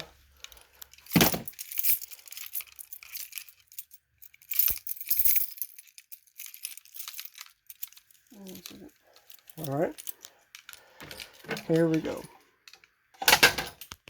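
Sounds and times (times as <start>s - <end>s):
handling clinks and rustles: 0.0s - 14.0s.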